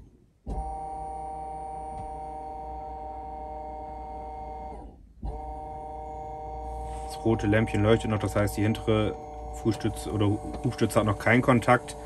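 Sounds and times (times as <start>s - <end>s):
hydraulic pump whining: 0.4s - 12.0s.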